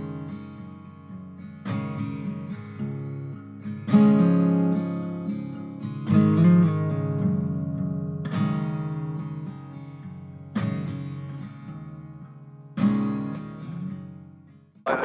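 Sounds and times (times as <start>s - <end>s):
acoustic guitar strumming chords: 0.0s - 14.3s.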